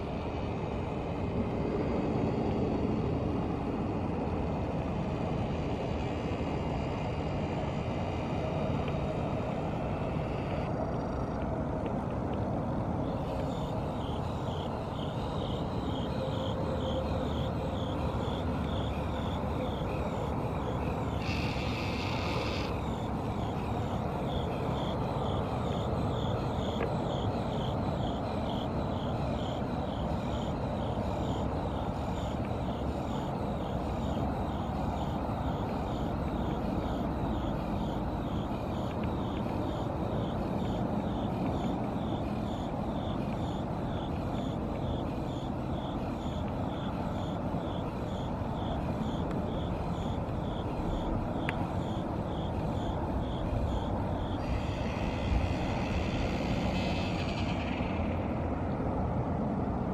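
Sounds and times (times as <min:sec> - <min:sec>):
steady outdoor rumble: 0:00.0 - 0:59.9.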